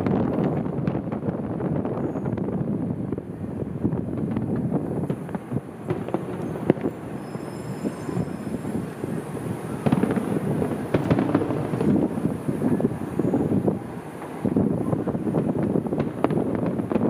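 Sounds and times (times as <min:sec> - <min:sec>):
firework bang: 0:00.0 - 0:17.0
fireworks popping and crackling: 0:00.0 - 0:17.0.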